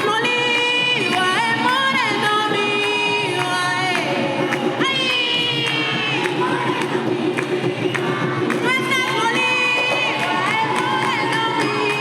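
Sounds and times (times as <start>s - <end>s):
crowd noise: 0.0s - 12.0s
person singing with music: 0.0s - 12.0s.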